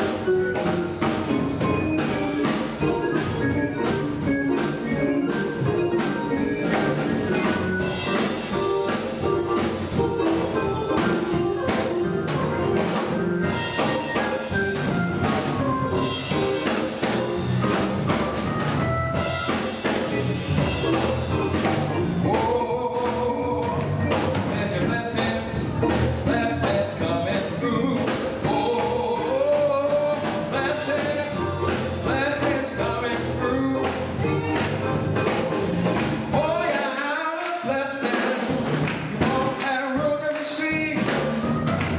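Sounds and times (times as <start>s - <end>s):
instrumental accompaniment: 0.0s - 41.9s
percussion beat: 0.0s - 41.9s
tambourine: 1.8s - 22.0s, 25.3s - 41.9s.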